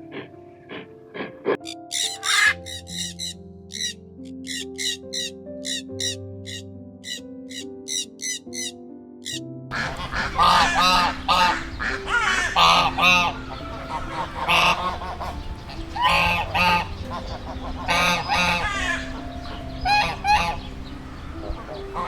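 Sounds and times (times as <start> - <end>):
light background music: 0.0 - 22.0
geese honking: 1.6 - 20.8, 21.4 - 22.0.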